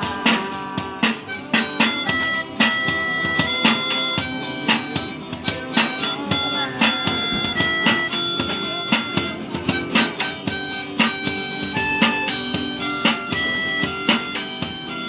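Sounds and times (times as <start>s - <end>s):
melody of held notes: 0.0s - 15.0s
plucked strings: 0.0s - 15.0s
steady beat: 0.0s - 15.0s.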